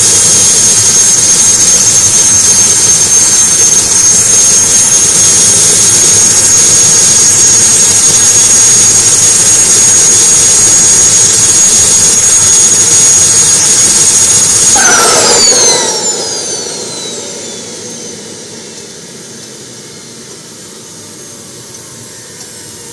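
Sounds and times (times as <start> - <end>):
small turbine engine whining: 0.0 - 22.9.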